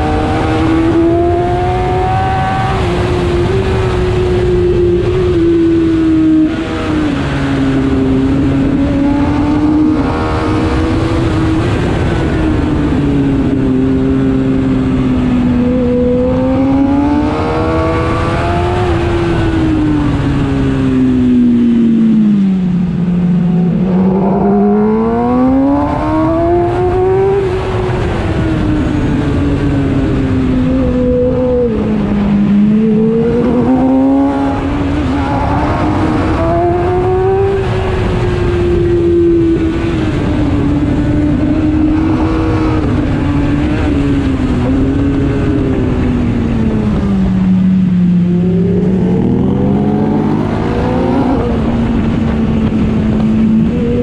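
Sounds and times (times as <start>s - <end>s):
motorcycle engine at track speed: 0.0s - 54.0s.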